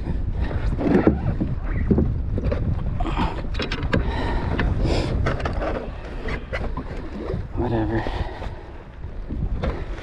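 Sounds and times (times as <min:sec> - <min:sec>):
water sounds: 0:00.0 - 0:10.0
wind buffeting microphone: 0:00.0 - 0:10.0.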